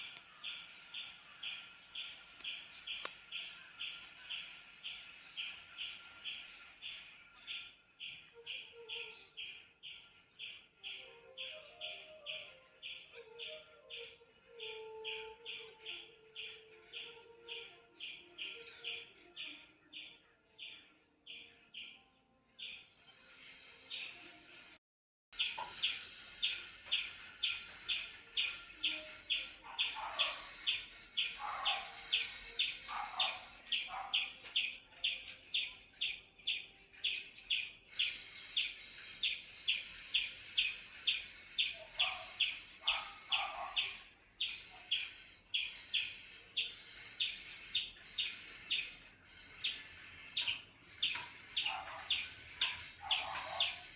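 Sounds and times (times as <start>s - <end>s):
squirrel chip calls: 0.0s - 24.8s, 25.4s - 53.9s.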